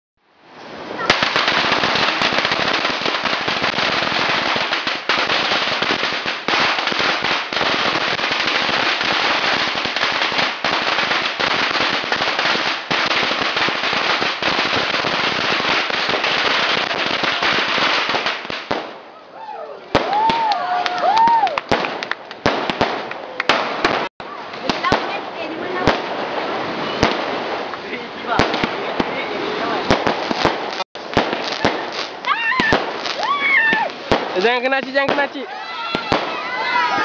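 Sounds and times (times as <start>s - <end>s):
fireworks crackling: 0.5s - 19.2s, 19.8s - 37.0s.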